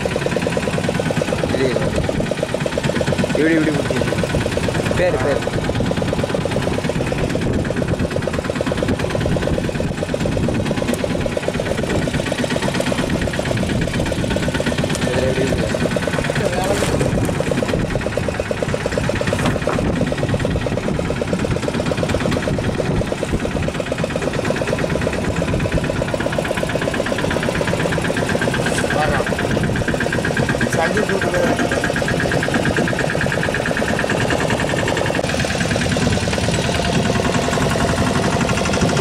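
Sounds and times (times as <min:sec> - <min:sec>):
boat engine pulsing: 0:00.0 - 0:39.0.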